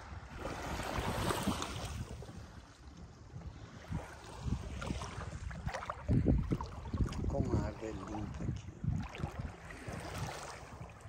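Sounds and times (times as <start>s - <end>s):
wind buffeting microphone: 0.0s - 11.0s
waves lapping on pebbles: 0.1s - 2.8s, 3.5s - 11.0s.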